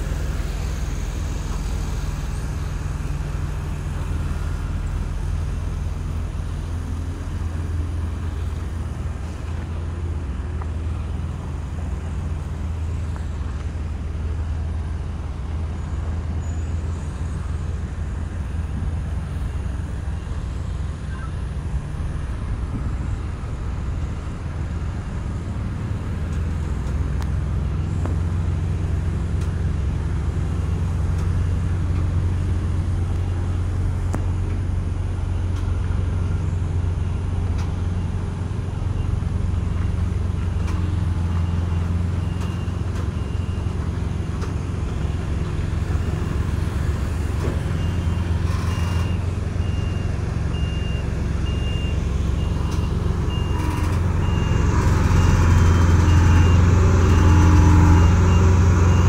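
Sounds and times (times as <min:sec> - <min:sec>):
diesel truck engines droning: 0:00.0 - 0:59.0.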